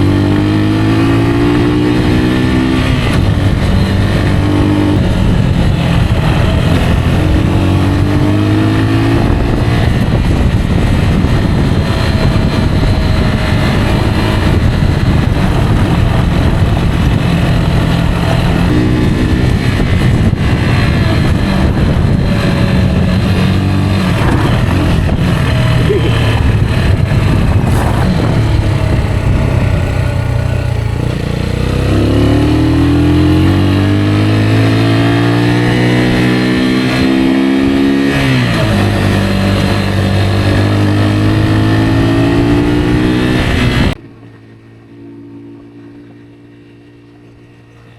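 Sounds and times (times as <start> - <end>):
motorcycle engine revving: 0.0 - 47.9
steady rushing noise: 2.2 - 44.0.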